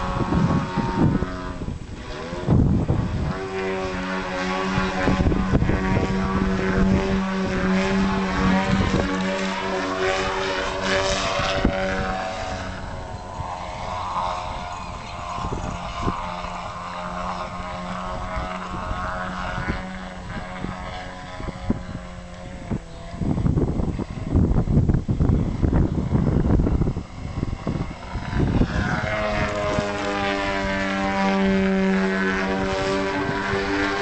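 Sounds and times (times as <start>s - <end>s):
propeller plane engine running hard: 0.0s - 34.0s.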